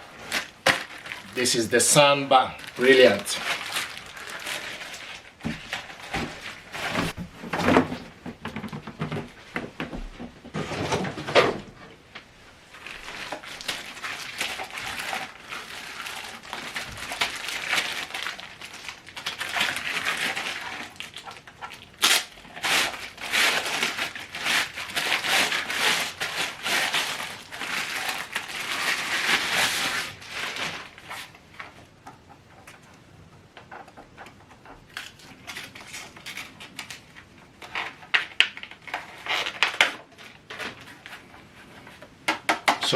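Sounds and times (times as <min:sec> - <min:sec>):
packaging rustling and crinkling: 0:00.0 - 0:11.8, 0:12.6 - 0:32.9, 0:33.6 - 0:42.2.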